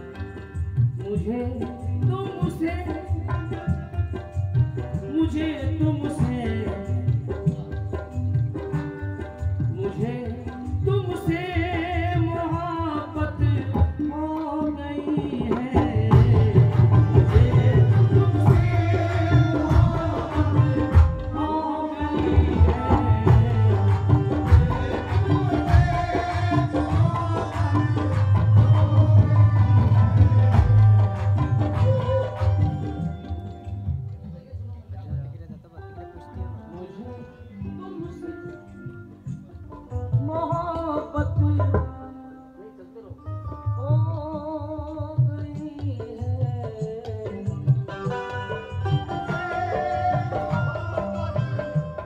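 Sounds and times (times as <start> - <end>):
sustained melodic instrumental line: 0.0 - 34.9, 35.8 - 45.9, 46.5 - 52.0
tabla drumming: 0.0 - 52.0.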